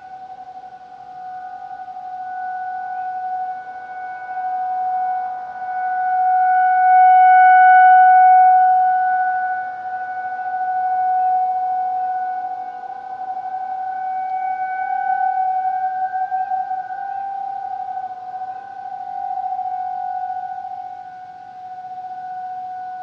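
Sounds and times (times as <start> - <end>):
warning siren steady tone: 0.0 - 23.0.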